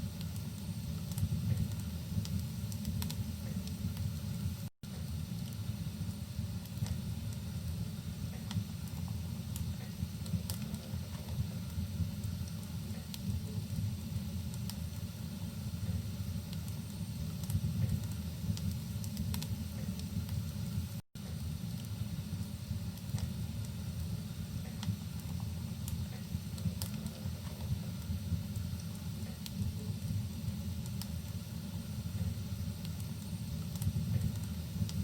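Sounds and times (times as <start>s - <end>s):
fireplace crackling: 0.0s - 35.0s
rain hissing: 0.0s - 35.0s.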